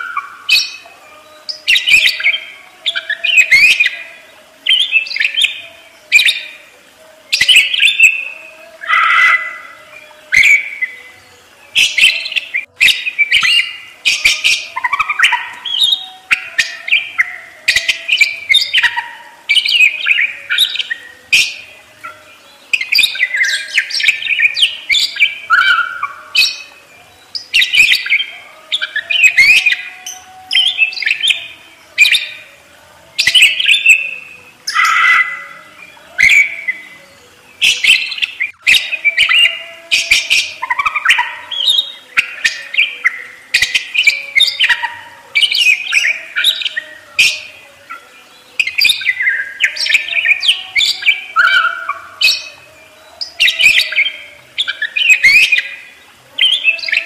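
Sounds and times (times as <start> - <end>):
budgerigars chattering: 0.0 - 6.7, 7.4 - 57.0.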